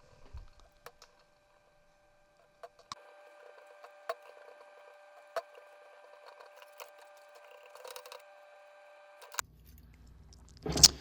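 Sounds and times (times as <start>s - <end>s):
faint steady whine: 0.0s - 10.6s.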